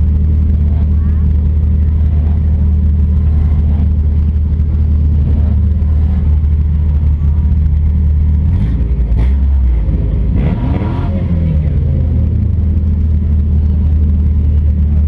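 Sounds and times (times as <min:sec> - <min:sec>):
car engine idling loudly: 0:00.0 - 0:15.0
engine rev: 0:00.0 - 0:15.0.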